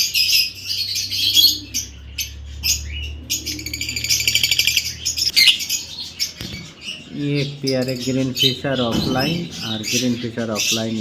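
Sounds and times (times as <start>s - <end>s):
birds chattering and chirping: 0.0s - 11.0s.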